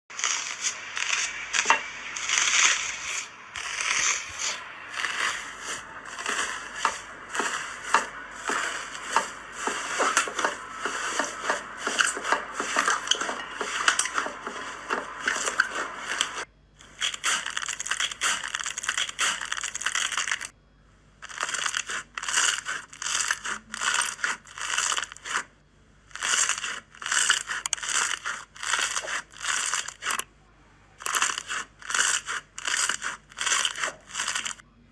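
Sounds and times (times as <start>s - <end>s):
slime crackling and popping: 0.1s - 20.5s, 21.2s - 30.3s, 31.0s - 34.6s.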